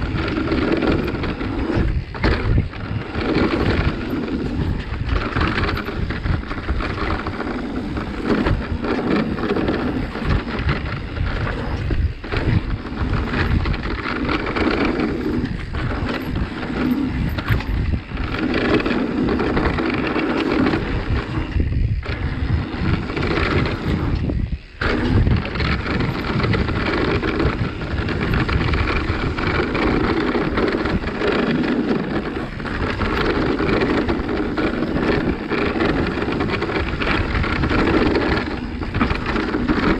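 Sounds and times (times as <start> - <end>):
bike rattling: 0.0 - 39.9
tyres rumbling on dirt: 0.0 - 39.9
wind buffeting microphone: 0.0 - 39.9.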